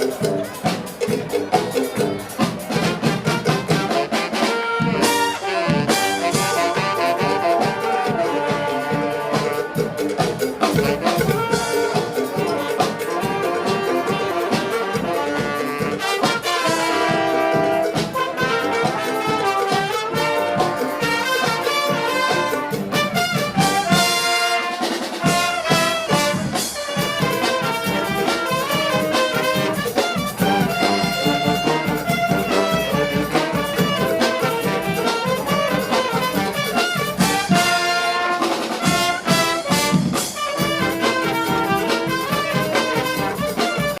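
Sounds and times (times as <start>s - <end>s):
brass band playing: 0.0s - 44.0s
steady drum beat: 0.0s - 44.0s.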